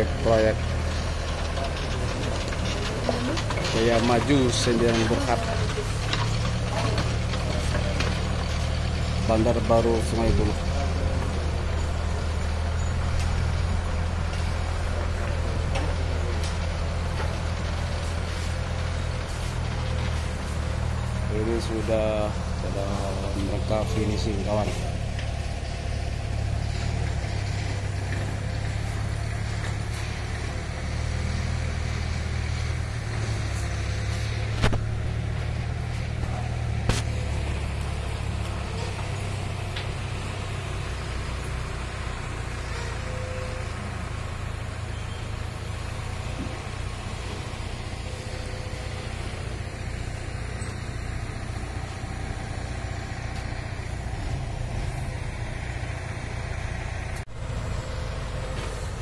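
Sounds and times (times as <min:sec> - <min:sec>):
low engine rumble: 0:00.0 - 0:59.0.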